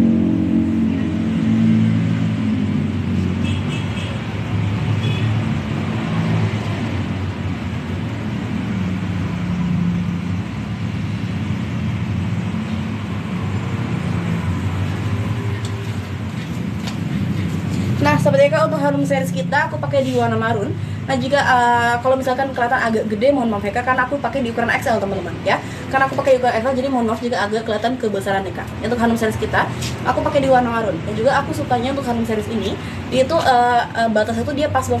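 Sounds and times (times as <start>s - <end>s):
vehicles passing: 0.0s - 35.0s.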